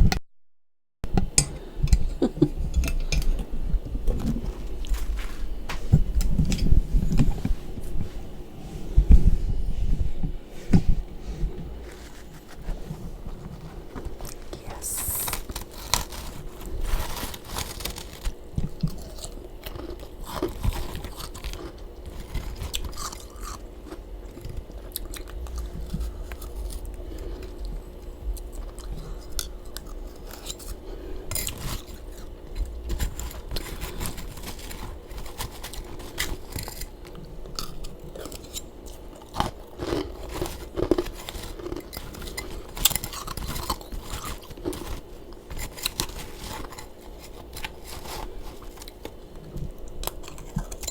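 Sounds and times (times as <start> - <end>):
chewing and crunching frost: 1.6 - 8.2, 11.3 - 50.9.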